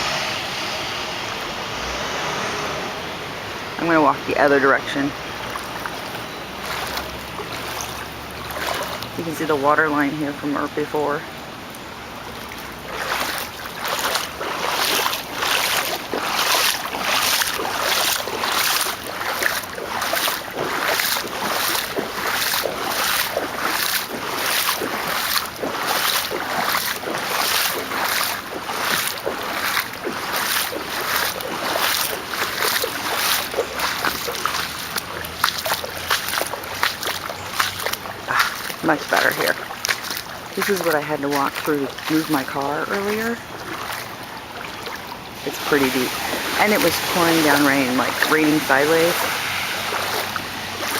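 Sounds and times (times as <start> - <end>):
legs wading through floodwater: 0.0 - 50.9.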